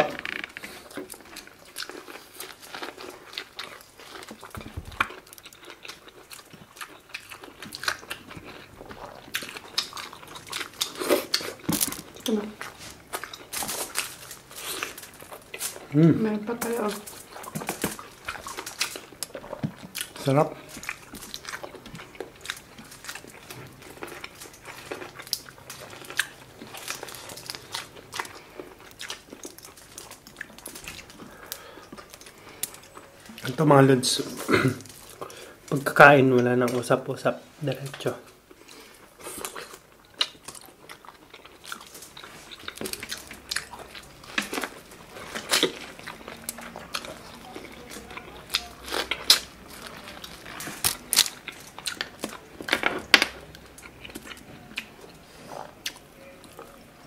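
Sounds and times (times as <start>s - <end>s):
biting and chewing: 0.0s - 36.8s, 38.4s - 57.0s.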